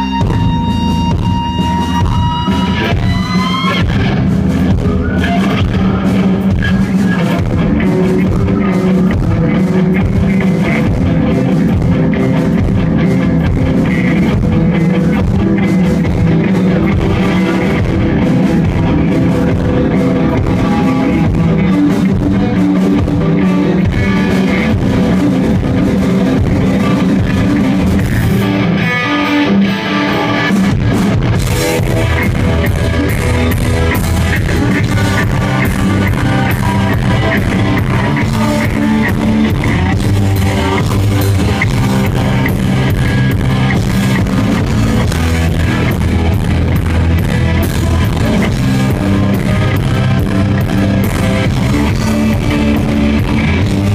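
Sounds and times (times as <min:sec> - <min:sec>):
drum kit rock beat: 0:00.0 - 0:53.9
electric guitars: 0:00.0 - 0:53.9.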